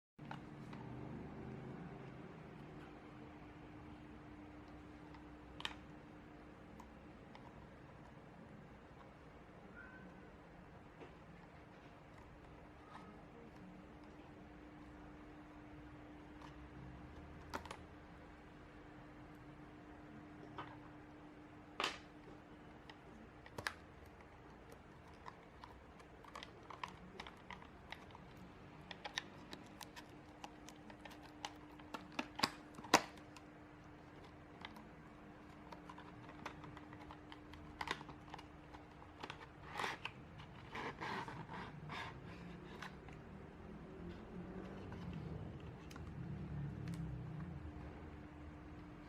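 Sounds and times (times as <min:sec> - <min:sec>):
faint steady hum: 0:00.2 - 0:49.0.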